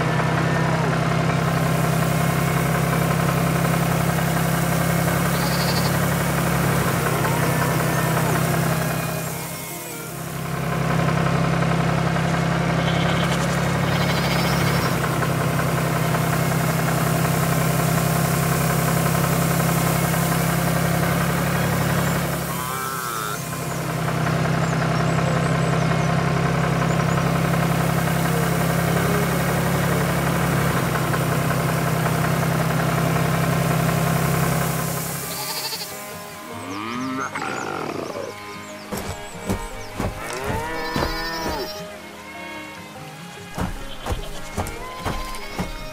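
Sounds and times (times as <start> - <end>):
tractor engine running: 0.0 - 36.6, 38.3 - 45.9.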